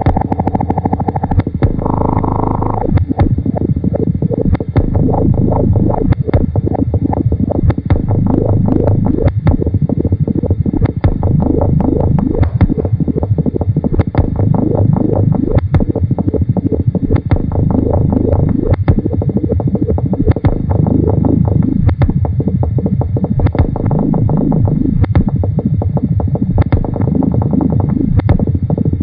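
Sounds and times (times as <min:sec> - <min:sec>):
low rising and falling pitches: 0:00.0 - 0:29.0.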